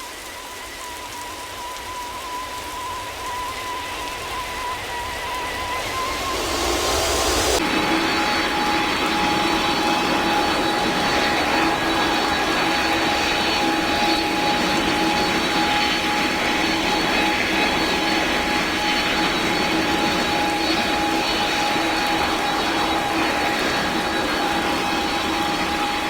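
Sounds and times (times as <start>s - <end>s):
high steady engine whine: 0.0s - 26.0s
jet engines running: 0.0s - 26.0s.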